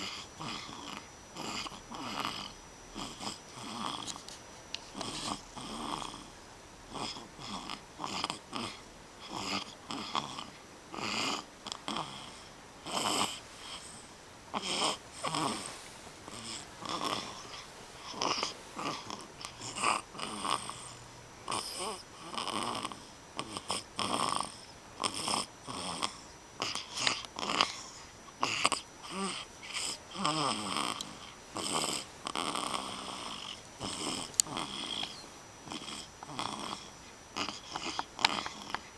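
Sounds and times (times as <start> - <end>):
loud snoring: 0.0 - 4.2, 4.9 - 38.9.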